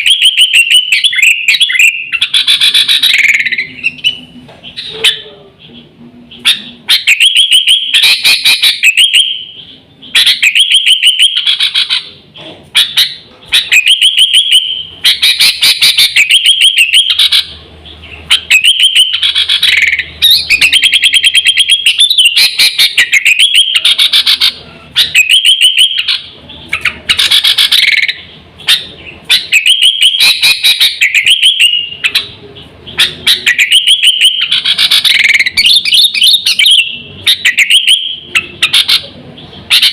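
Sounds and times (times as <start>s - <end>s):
bulbul singing rapid chirps: 0.0s - 39.9s.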